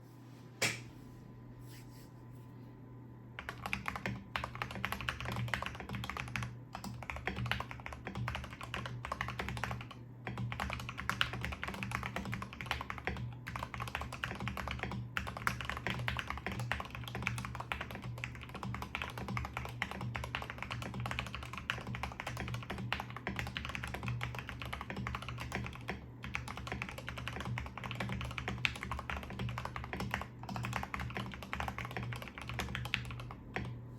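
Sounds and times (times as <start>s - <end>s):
low steady hum: 0.0s - 33.9s
fast typing on mechanical keyboard: 3.4s - 33.8s.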